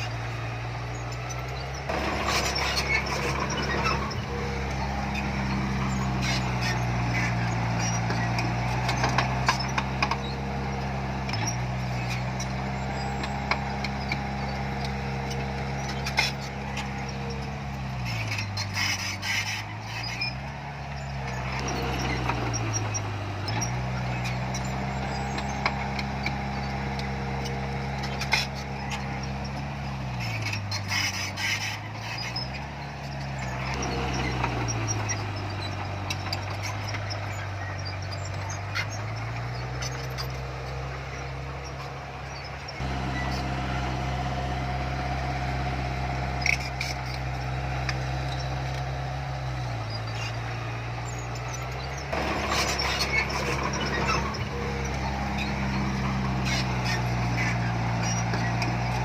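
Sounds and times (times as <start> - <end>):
metallic clanks and rattles: 0.0 - 43.7, 46.3 - 59.0
bulldozer diesel engine: 0.0 - 59.0.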